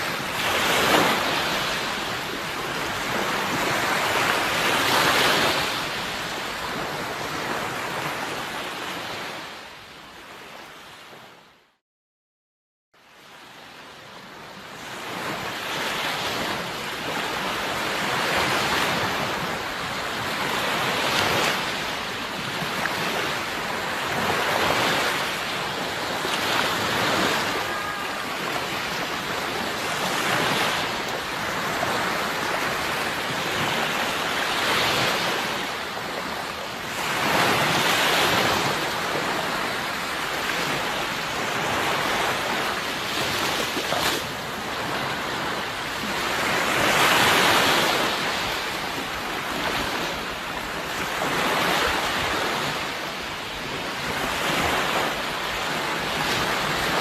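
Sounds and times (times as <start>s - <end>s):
sea waves breaking: 0.0s - 11.4s, 13.1s - 57.0s.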